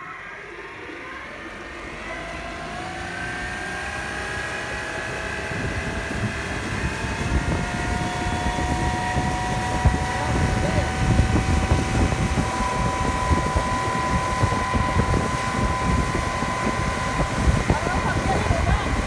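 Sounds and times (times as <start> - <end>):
electric outboard motor whining: 0.0 - 19.0
wind buffeting microphone: 3.6 - 19.0.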